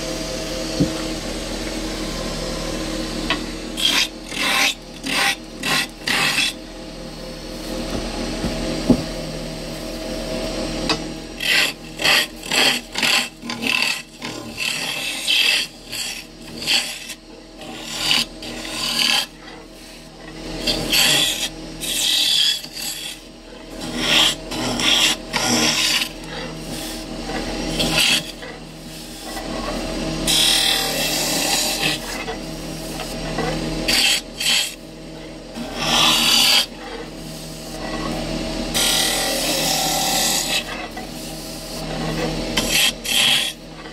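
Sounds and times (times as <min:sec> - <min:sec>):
steady low hum: 0:00.0 - 0:43.9
tool scraping and cutting wood: 0:00.7 - 0:02.2, 0:03.2 - 0:06.7, 0:10.8 - 0:43.9.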